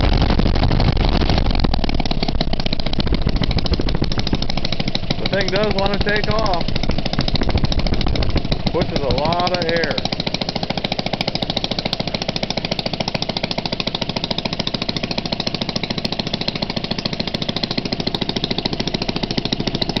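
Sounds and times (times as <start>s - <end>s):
propeller pushing air: 0.0s - 20.0s
two-stroke engine running: 0.0s - 20.0s.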